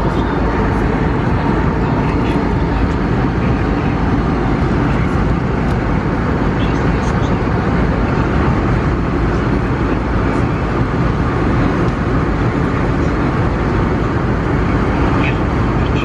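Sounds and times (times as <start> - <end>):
airplane cabin engine and airflow rush: 0.0 - 16.0.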